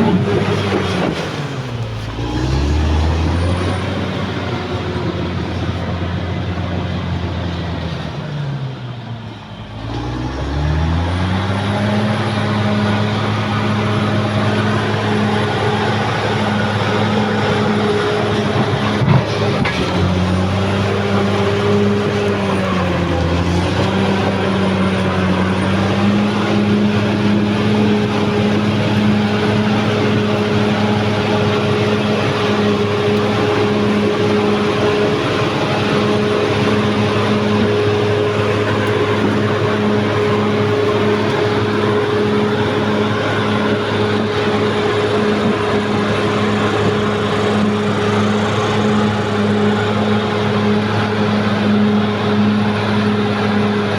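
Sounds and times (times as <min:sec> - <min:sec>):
bulldozer diesel engine revving: 0:00.0 - 0:53.9.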